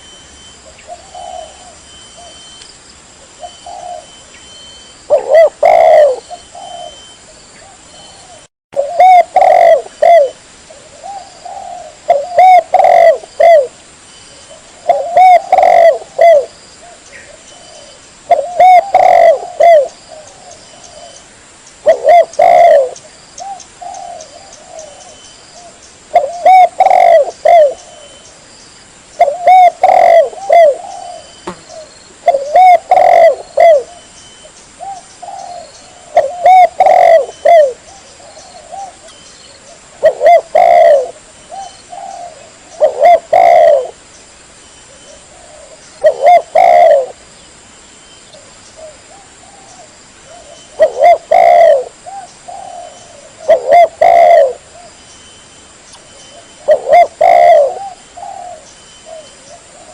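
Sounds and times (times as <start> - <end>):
dove cooing: 0.6 - 2.4, 3.2 - 4.3, 5.1 - 13.8, 14.4 - 21.2, 21.8 - 28.2, 29.2 - 34.1, 34.8 - 44.0, 44.9 - 47.2, 48.3 - 55.0, 56.3 - 59.9.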